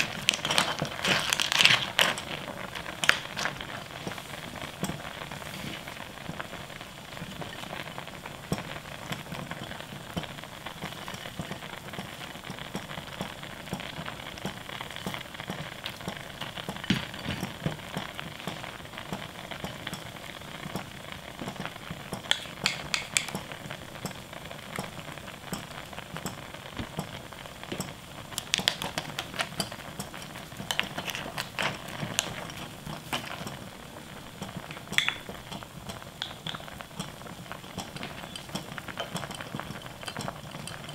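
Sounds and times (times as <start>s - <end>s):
soup bubbling at a boil: 0.0s - 40.9s.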